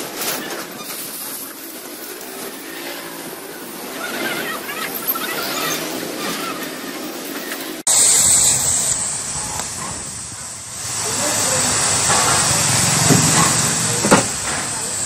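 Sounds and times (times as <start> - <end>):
cutting torch hissing: 0.0 - 15.0.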